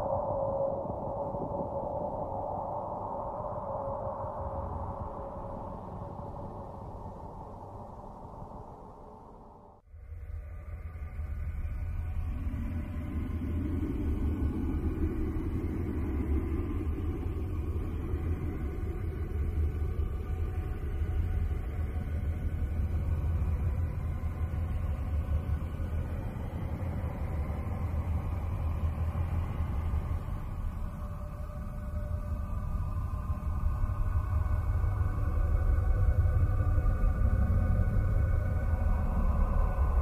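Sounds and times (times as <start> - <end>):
deep rumbling drone: 0.0 - 40.0
low hum: 0.0 - 40.0.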